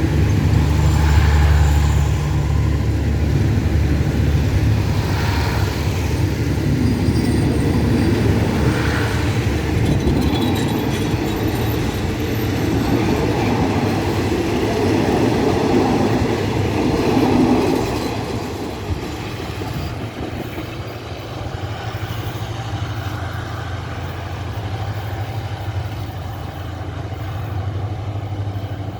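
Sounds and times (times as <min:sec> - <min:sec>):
passenger train passing: 0:00.0 - 0:28.9.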